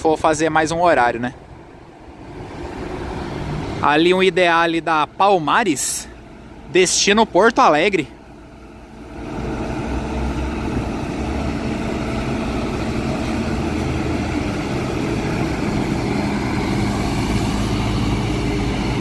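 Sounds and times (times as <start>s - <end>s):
diesel bus engine passing: 0.0s - 19.0s.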